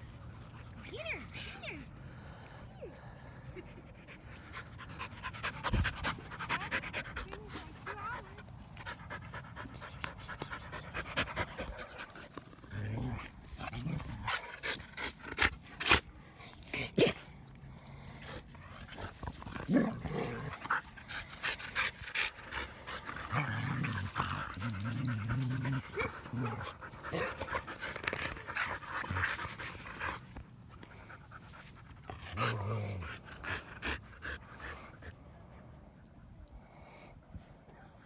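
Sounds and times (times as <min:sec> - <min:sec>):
dogs panting: 0:00.0 - 0:16.7, 0:17.6 - 0:35.6.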